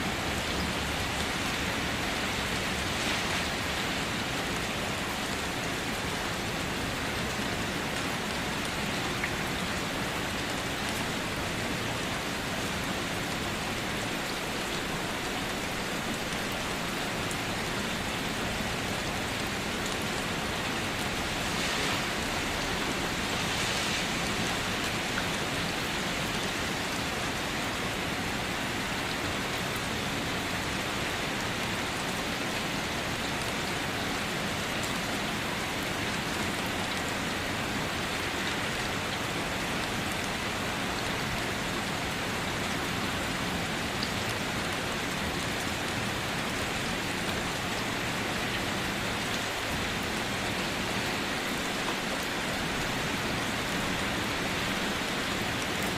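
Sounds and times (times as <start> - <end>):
rain falling on a car: 0.0 - 55.9.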